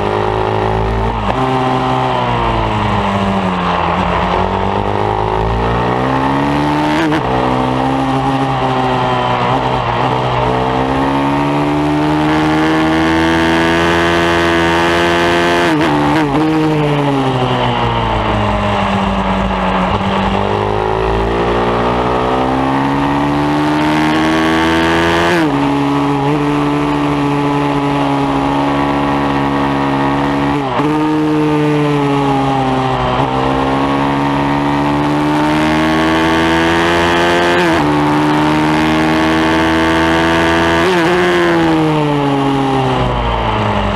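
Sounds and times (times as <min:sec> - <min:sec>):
pit bike engine at full throttle: 0:00.0 - 0:43.9.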